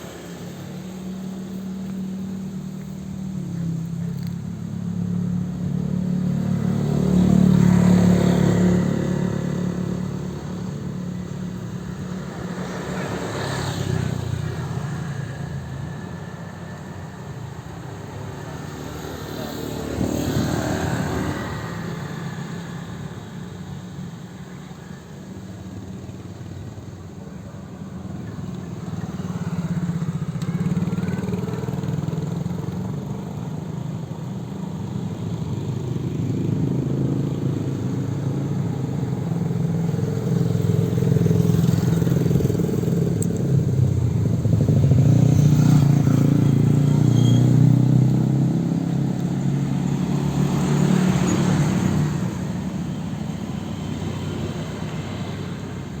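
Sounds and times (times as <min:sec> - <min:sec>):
motorcycle engine running: 0:00.0 - 0:24.2, 0:25.3 - 0:56.0.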